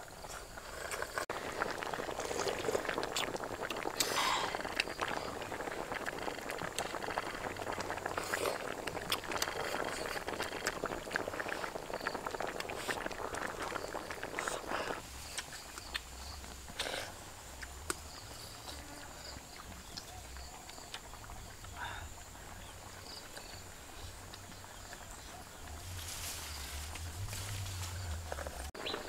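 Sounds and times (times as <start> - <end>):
slurping and chewing: 0.2 - 25.8.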